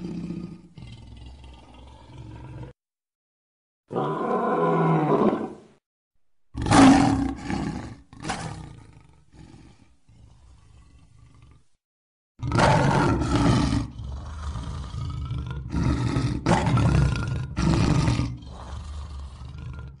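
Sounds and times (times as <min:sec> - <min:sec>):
lion roaring: 0:00.0 - 0:02.8, 0:03.9 - 0:05.6, 0:06.6 - 0:11.8, 0:12.4 - 0:20.0.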